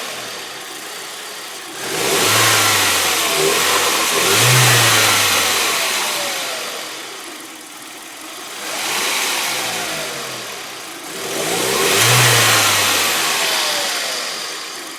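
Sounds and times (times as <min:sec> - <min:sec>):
car engine idling rough and surging: 0:00.0 - 0:14.9.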